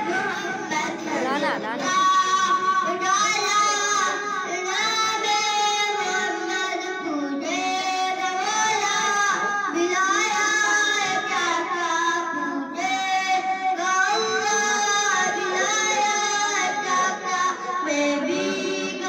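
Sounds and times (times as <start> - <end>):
boy singing unaccompanied: 0.0 - 19.0.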